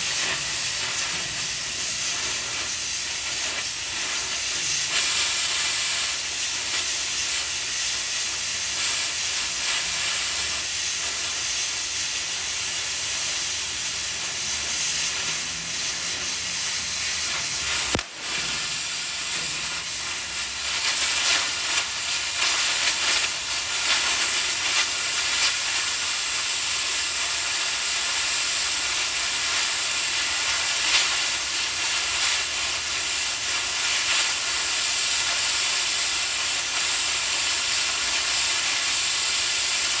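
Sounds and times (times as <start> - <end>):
crackling from metal cut: 0.0 - 40.0
cutting torch hissing: 0.0 - 40.0.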